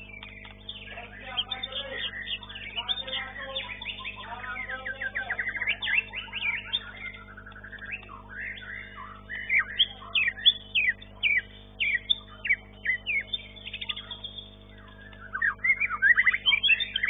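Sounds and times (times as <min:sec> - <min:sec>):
bird singing whistled notes: 0:00.0 - 0:17.0.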